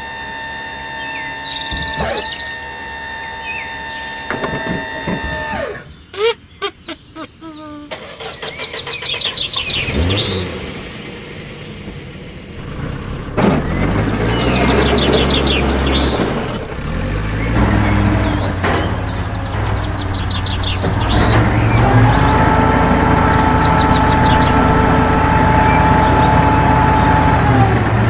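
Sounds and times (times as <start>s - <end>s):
engine starting click: 0.0s - 6.1s, 7.9s - 24.8s
birds chirping: 0.0s - 28.0s
vehicle engine humming: 0.0s - 28.0s.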